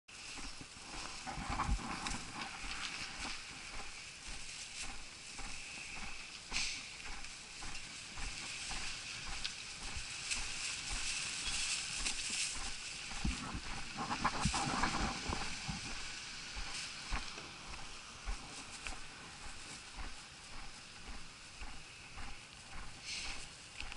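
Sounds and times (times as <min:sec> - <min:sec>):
footsteps on paved street: 0:00.1 - 0:23.9
steady faint hiss: 0:00.1 - 0:23.9.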